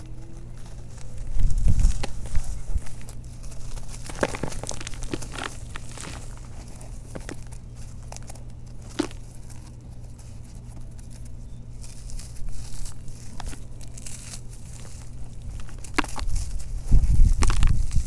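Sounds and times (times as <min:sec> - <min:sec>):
gritty crunching and sifting: 0:00.0 - 0:18.0
lumps cracking: 0:00.0 - 0:18.0.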